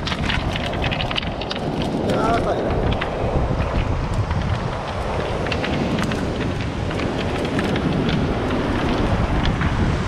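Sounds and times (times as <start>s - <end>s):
pebbles knocking together: 0.0s - 10.0s
surf breaking: 0.0s - 10.0s
wind buffeting microphone: 0.0s - 10.0s.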